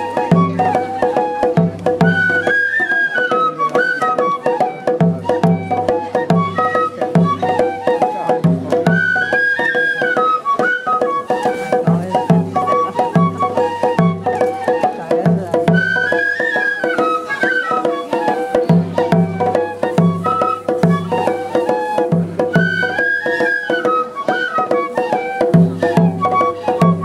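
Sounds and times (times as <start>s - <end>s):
bamboo flutes playing melody: 0.0s - 27.0s
taiko drum beat: 0.0s - 27.0s.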